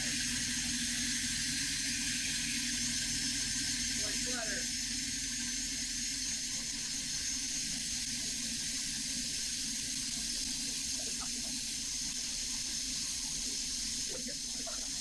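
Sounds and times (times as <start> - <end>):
bandsaw motor and blade hiss: 0.0 - 15.0.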